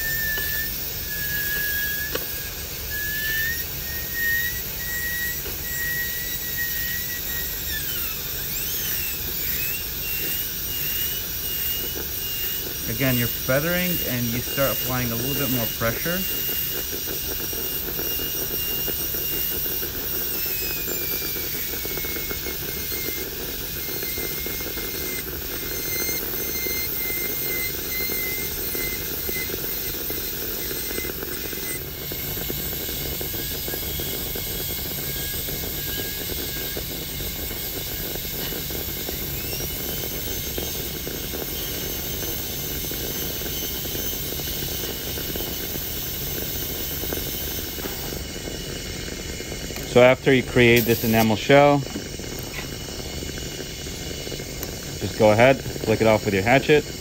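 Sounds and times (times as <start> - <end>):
dental drill whining: 0.0 - 57.0.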